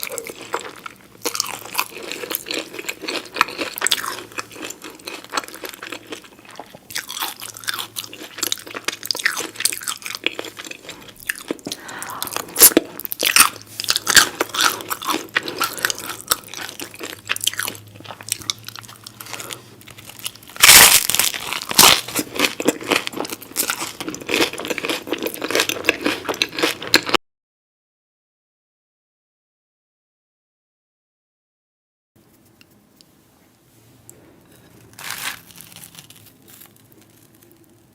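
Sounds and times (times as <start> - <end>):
crunchy food being chewed: 0.0 - 27.2, 34.0 - 37.9.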